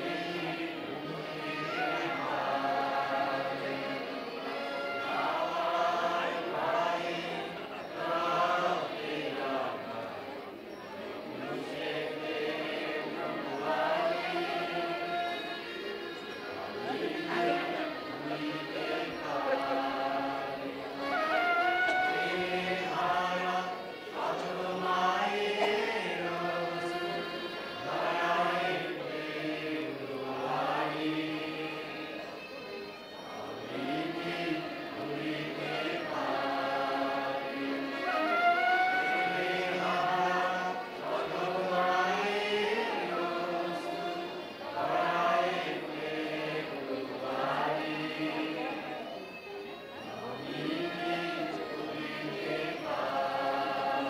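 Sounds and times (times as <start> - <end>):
choir singing slow song: 0.0 - 54.0.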